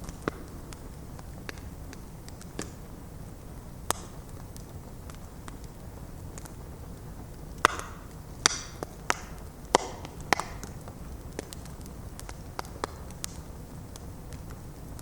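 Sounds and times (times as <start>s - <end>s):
bonfire burning low rumble: 0.0s - 15.0s
wood crackling pops: 0.0s - 15.0s.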